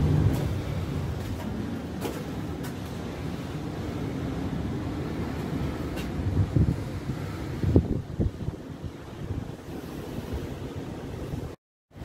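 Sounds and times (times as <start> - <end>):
sea surf rumble: 0.0 - 12.0
wind on microphone: 0.0 - 12.0.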